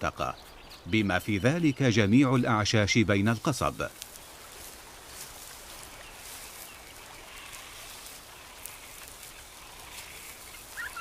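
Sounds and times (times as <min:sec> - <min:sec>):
distant bird calls: 0:00.0 - 0:11.0
steady low hiss: 0:00.0 - 0:11.0.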